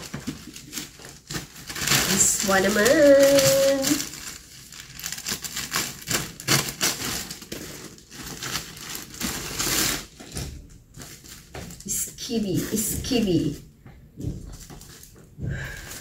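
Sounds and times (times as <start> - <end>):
plastic packaging crinkling: 0.0 - 12.0, 14.4 - 15.3.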